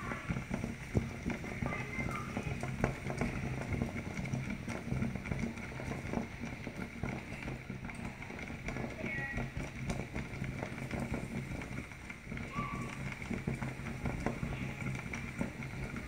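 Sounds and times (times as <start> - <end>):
porridge boiling in a pot: 0.0 - 16.0.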